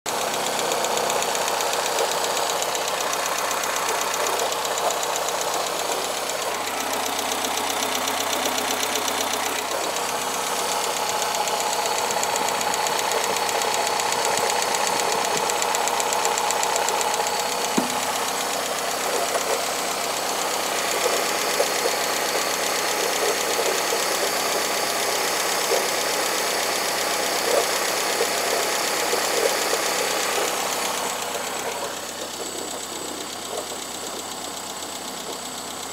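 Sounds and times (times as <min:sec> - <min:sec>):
car engine running: 0:00.0 - 0:35.9
rapid ticking engine clatter: 0:00.0 - 0:35.9.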